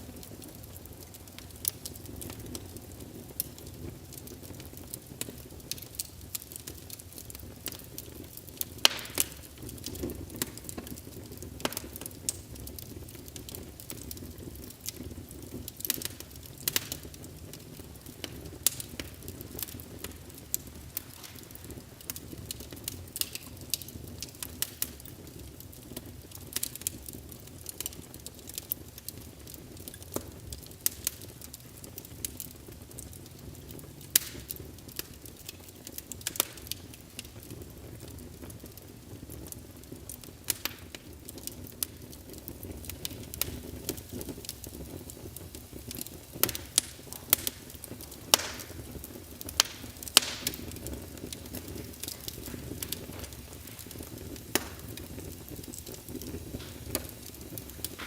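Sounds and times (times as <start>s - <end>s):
logs crackling and popping: 0.0s - 58.0s
low rush of flame: 0.0s - 58.0s.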